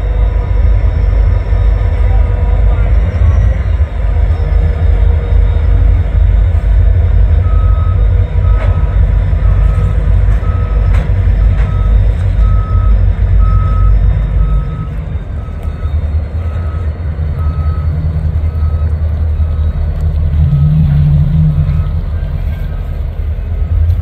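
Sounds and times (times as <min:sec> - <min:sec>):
back-up alarm beeping: 0:00.0 - 0:22.4
locomotive diesel engines rumbling: 0:00.0 - 0:24.0.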